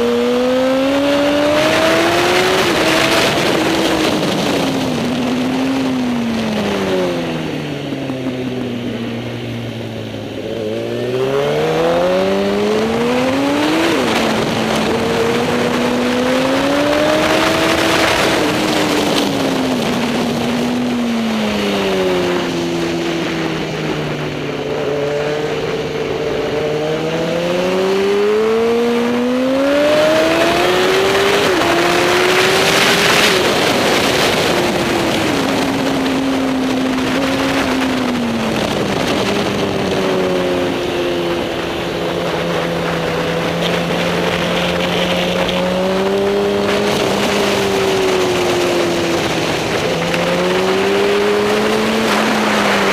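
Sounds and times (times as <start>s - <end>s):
racing motorcycle engine: 0.0s - 52.9s.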